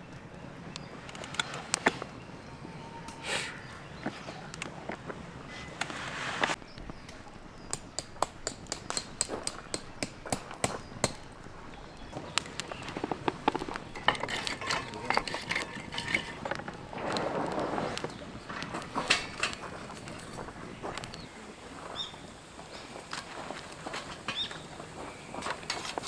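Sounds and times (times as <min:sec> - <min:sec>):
fire pops and snaps: 0:00.0 - 0:02.2, 0:04.4 - 0:26.0
campfire crackling: 0:00.0 - 0:26.0
fire hissing: 0:03.1 - 0:03.9, 0:04.8 - 0:26.0.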